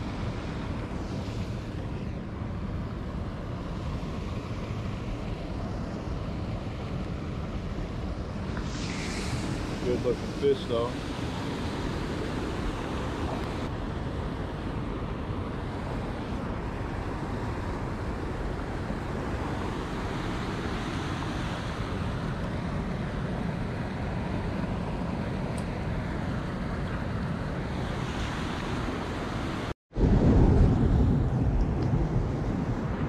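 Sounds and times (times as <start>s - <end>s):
wind rushing on microphone: 0.0s - 33.0s.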